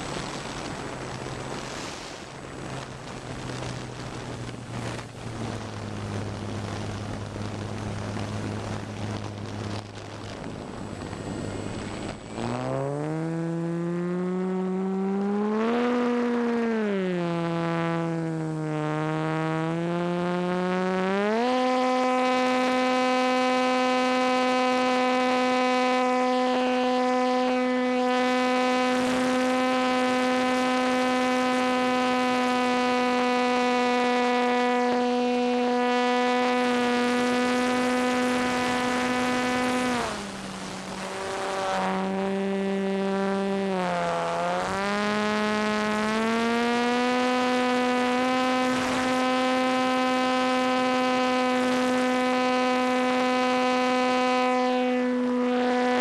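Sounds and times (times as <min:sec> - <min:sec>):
model plane motor drone: 0:00.0 - 0:56.0.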